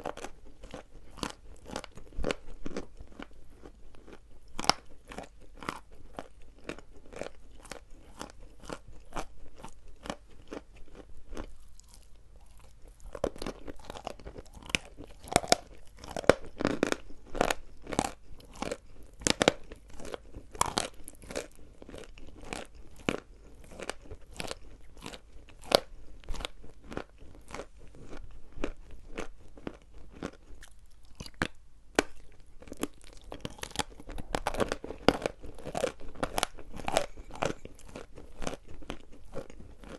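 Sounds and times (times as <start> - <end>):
chalk crunching being chewed: 0.0 - 39.9.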